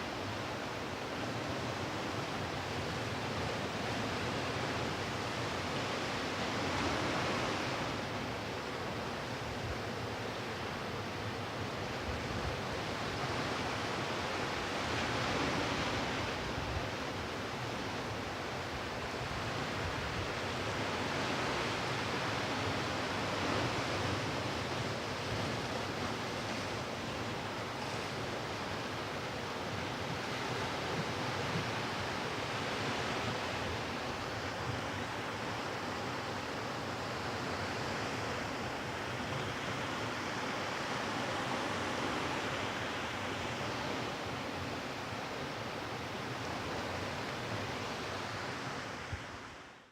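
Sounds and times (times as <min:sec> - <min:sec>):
sea surf on beach: 0:00.0 - 0:49.9.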